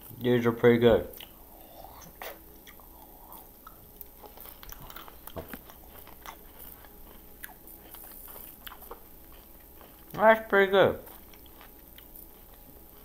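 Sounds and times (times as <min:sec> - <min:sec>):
chewing crunchy candy: 0:01.1 - 0:13.0.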